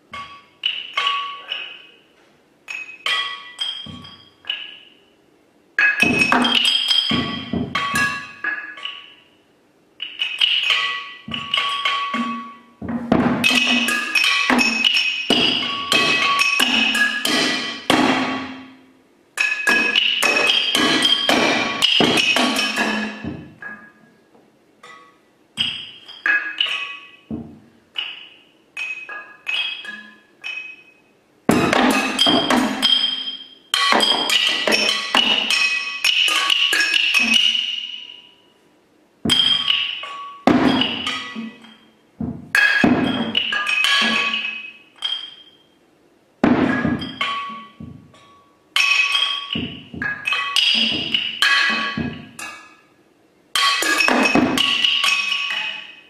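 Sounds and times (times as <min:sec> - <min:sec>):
percussion strikes with ringing tones: 0:00.0 - 0:56.0.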